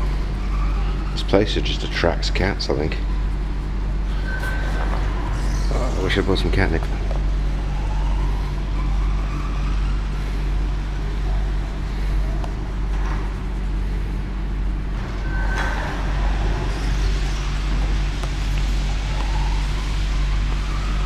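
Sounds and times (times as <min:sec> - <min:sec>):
constant hum: 0:00.0 - 0:21.0
steady low rumble: 0:00.0 - 0:21.0.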